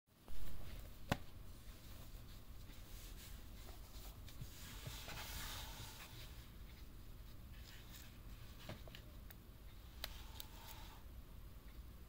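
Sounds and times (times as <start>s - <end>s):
faint low hum: 0.1s - 12.0s.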